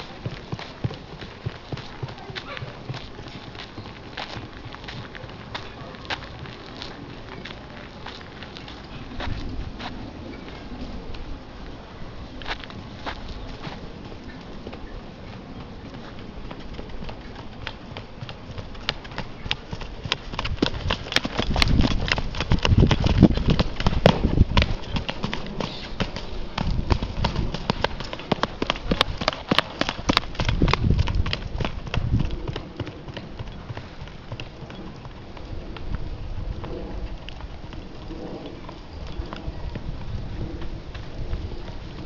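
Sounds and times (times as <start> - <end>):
horse hooves clip-clopping: 0.0 - 42.0.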